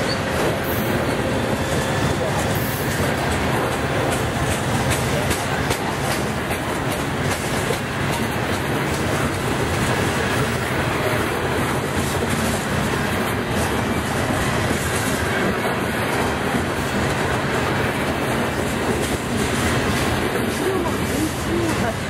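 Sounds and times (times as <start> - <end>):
train wheels rumbling on rails: 0.0 - 22.0
clicking over rail joints: 1.9 - 22.0.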